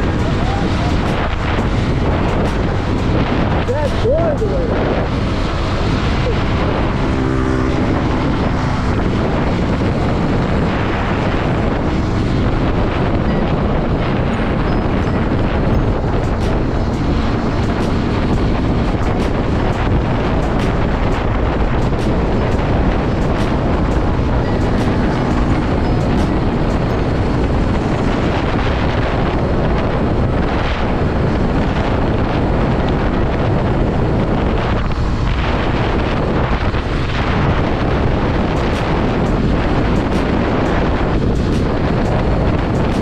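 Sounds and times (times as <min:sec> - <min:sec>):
motorcycle engine running: 0:00.0 - 0:43.0
wind rush on microphone: 0:00.0 - 0:43.0.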